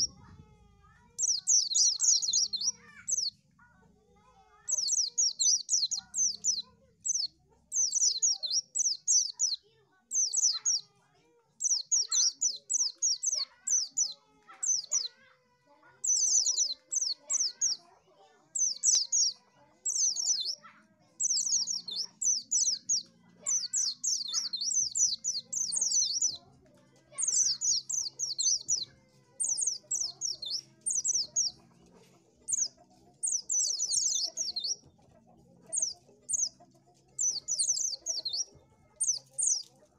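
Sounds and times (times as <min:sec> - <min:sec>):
bird twittering chirps: 0:01.2 - 0:03.4, 0:04.7 - 0:10.9, 0:11.6 - 0:15.2, 0:16.0 - 0:17.8, 0:18.5 - 0:26.5, 0:27.1 - 0:31.8, 0:32.5 - 0:35.0, 0:35.7 - 0:36.6, 0:37.2 - 0:39.7.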